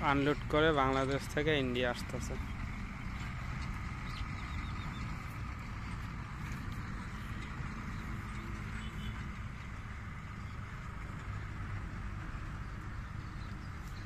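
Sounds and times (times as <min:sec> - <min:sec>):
distant truck engines rumbling: 0:00.0 - 0:14.0.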